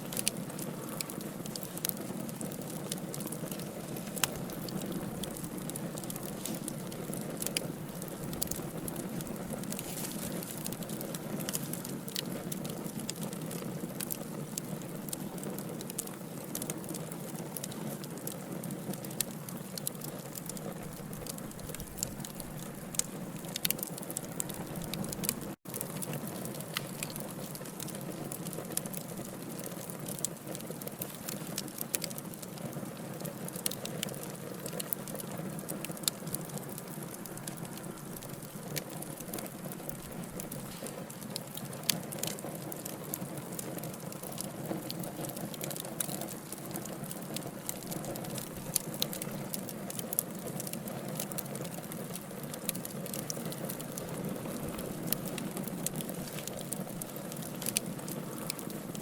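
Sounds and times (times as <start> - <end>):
low fire hiss: 0.0 - 59.0
fireplace logs crackling: 0.1 - 59.0.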